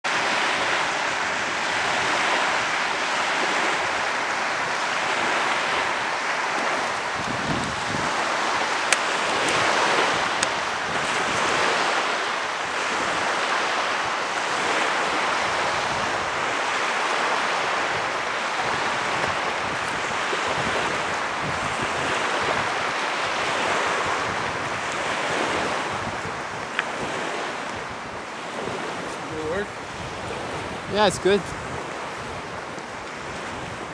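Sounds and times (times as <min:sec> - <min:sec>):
steady outdoor rushing noise: 0:00.0 - 0:33.9.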